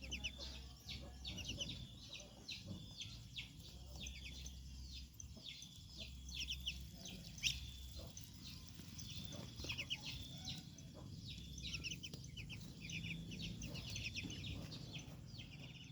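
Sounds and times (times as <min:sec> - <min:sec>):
ducklings peeping: 0:00.0 - 0:15.9.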